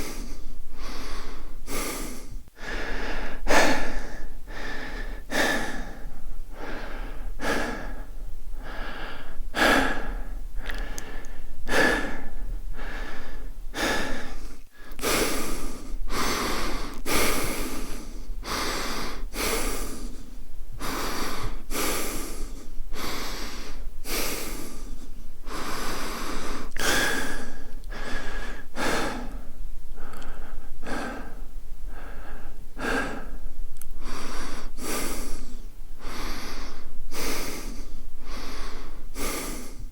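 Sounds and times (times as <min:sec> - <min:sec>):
man breathing fast: 0:00.0 - 0:39.9.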